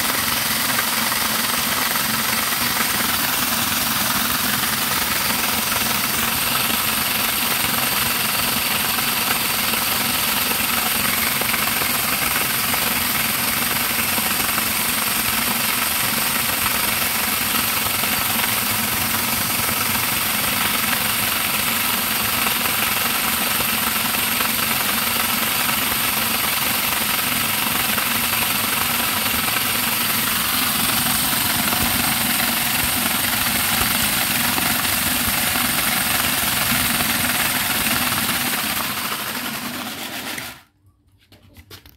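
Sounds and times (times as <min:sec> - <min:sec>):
electric corn grinder running: 0:00.0 - 0:40.7.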